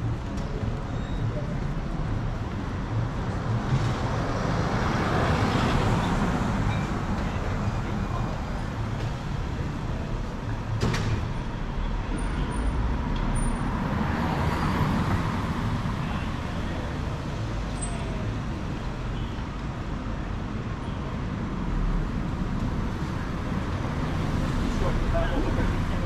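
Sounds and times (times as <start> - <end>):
passing cars and buses: 0.0 - 26.0.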